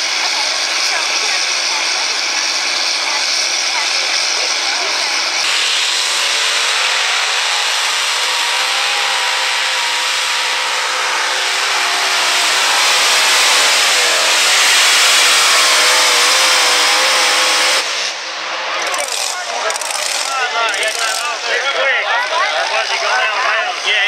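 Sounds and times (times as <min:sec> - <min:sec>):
pulling tractor engine roaring: 0:00.0 - 0:24.0.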